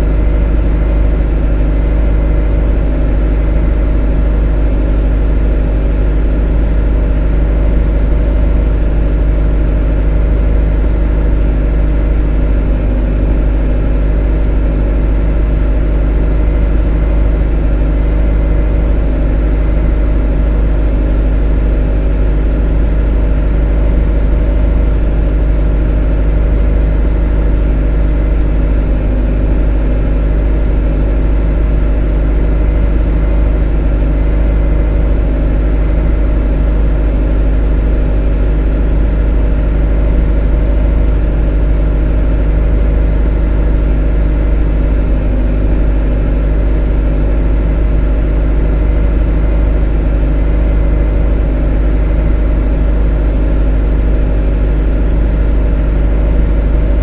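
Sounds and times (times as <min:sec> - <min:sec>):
motor droning: 0:00.0 - 0:57.0.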